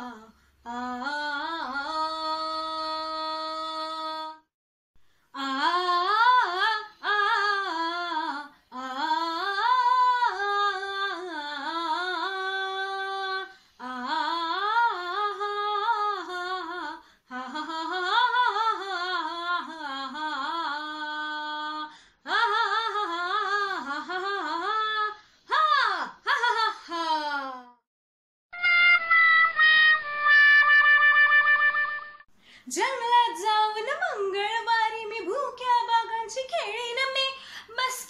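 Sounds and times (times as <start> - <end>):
woman singing unaccompanied: 0.0 - 4.4, 5.4 - 27.7, 32.7 - 38.0.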